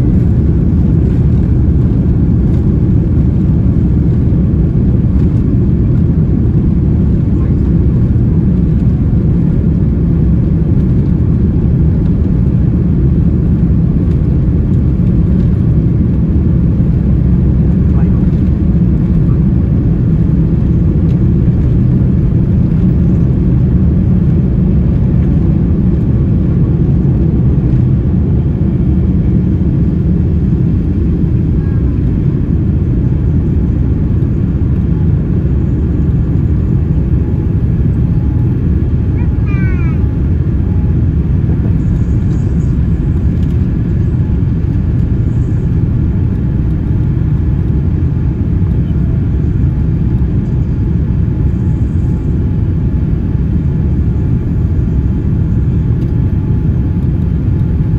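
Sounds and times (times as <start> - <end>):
jet engines rumbling in cabin: 0.0 - 57.9.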